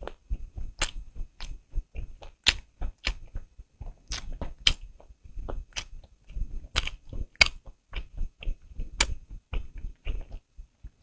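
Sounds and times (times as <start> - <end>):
crisp smacks and crunchy bites: 0.0 - 11.0
person chewing close to microphone: 0.0 - 11.0.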